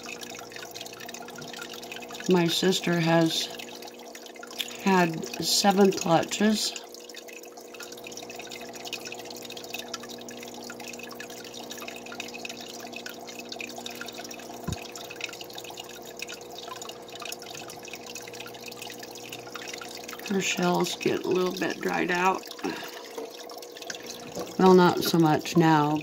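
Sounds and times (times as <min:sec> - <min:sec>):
water trickling and dripping: 0:00.0 - 0:26.0.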